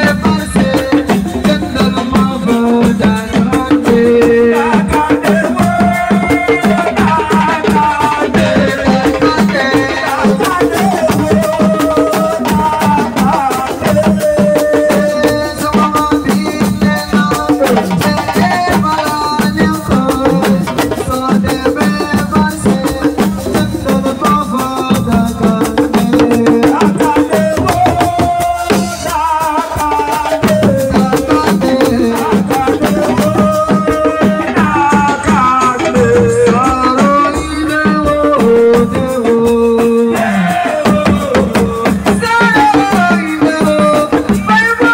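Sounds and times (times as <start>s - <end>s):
hand drums: 0.0s - 44.9s.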